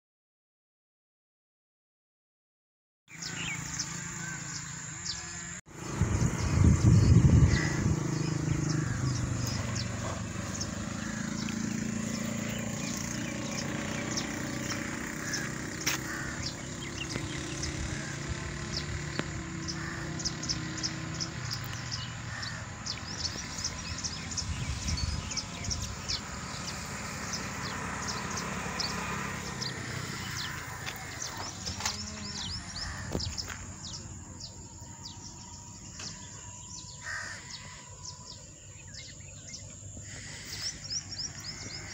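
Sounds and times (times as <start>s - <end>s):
small birds chirping: 3.1s - 41.9s
high insect drone: 3.2s - 41.9s.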